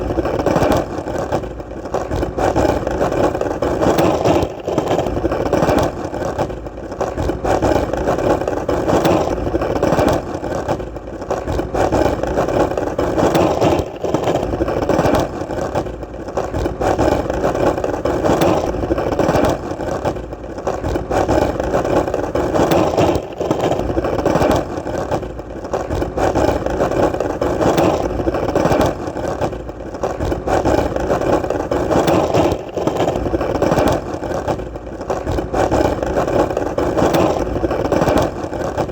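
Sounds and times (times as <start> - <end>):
skateboard wheels rolling: 0.0 - 38.9.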